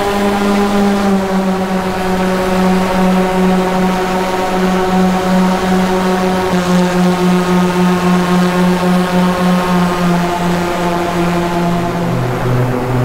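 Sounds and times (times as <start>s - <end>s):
electric paramotor humming in flight: 0.0s - 13.0s.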